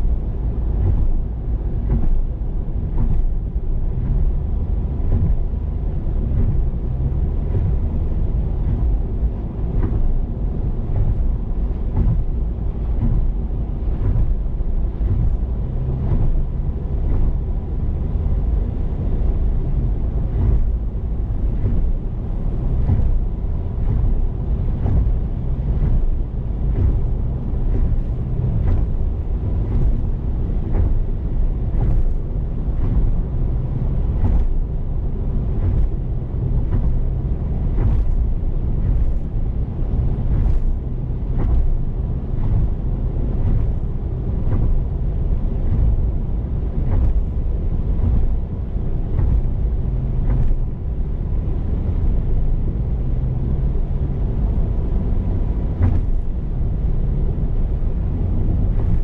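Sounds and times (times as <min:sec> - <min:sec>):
road and tyre noise: 0:00.0 - 0:59.0.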